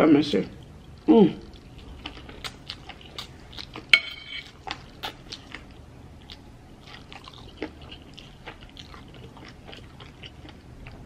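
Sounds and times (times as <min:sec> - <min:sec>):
person chewing noodles: 0:00.6 - 0:11.0.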